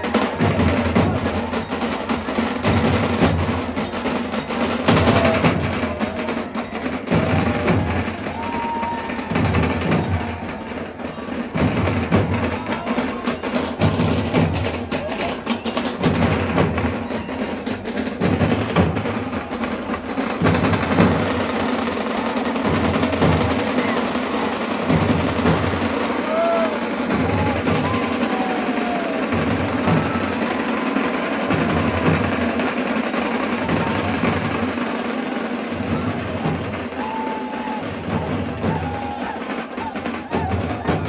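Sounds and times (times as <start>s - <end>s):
drum beats: 0.0s - 41.0s
loud percussion-led music: 0.0s - 41.0s.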